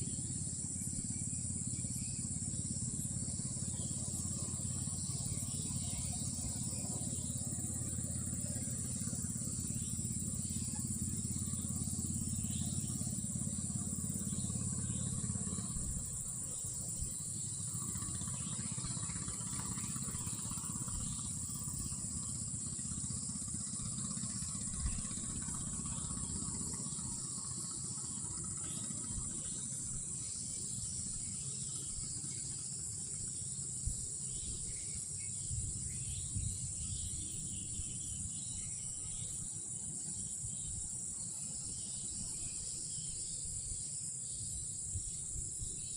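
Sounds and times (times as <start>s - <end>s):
night insects droning: 0.0s - 45.9s.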